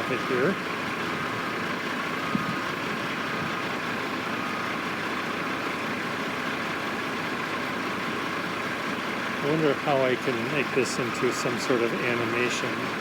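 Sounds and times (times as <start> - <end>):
diesel machinery drone: 0.0 - 13.0.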